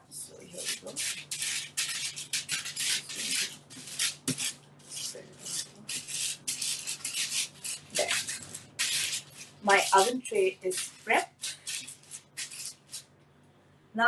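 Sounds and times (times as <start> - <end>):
hands rubbing paper: 0.4 - 13.1.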